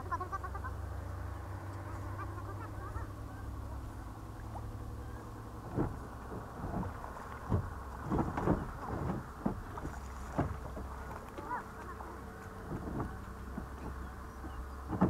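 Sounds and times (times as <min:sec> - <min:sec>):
wind rumble on microphone: 0:00.0 - 0:15.0
fish splashing in water: 0:00.1 - 0:15.0.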